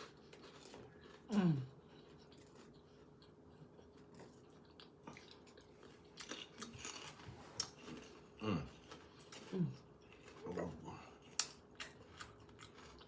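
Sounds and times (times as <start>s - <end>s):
chewing food crunching: 0.0s - 13.0s.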